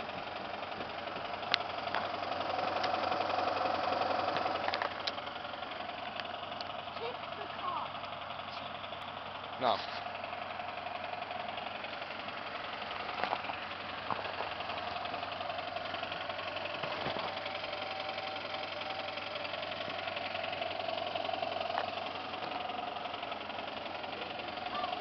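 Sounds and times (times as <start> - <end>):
car engine running with knock: 0.0 - 25.0
sharp engine clicks: 0.0 - 25.0.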